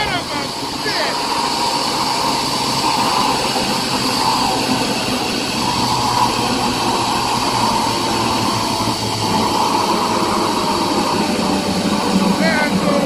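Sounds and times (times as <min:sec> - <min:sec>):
zipline pulleys whirring on cable: 0:00.0 - 0:13.0.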